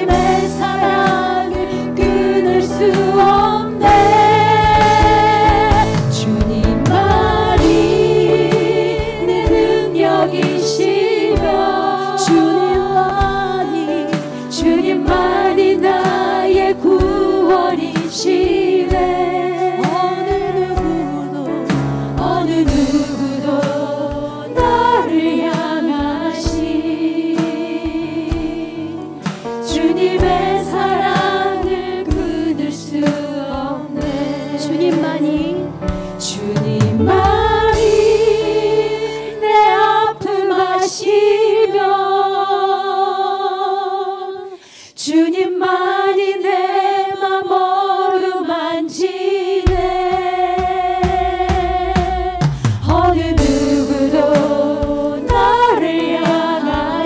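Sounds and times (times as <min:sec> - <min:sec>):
instrumental accompaniment: 0:00.0 - 0:41.4, 0:49.6 - 0:57.0
voices singing along: 0:00.0 - 0:57.0
woman singing into a microphone: 0:00.0 - 0:57.0.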